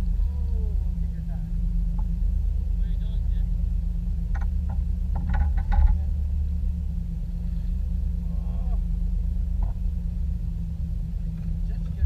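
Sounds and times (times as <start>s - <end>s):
motor rumbling: 0.0s - 12.0s.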